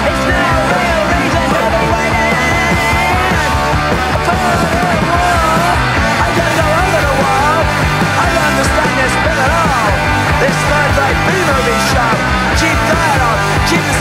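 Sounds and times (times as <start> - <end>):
rock song with singing: 0.0 - 14.0.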